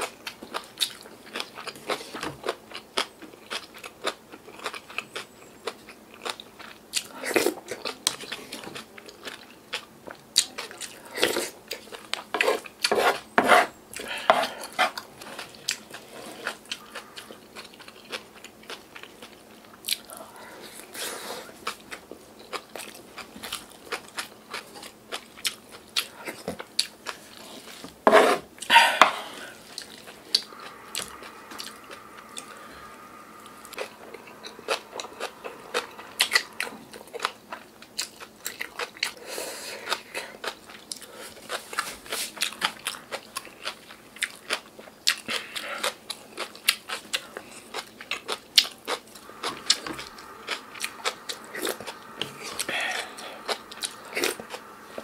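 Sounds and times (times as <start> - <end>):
wet chewing and crunching: 0.0 - 27.9, 28.6 - 55.0.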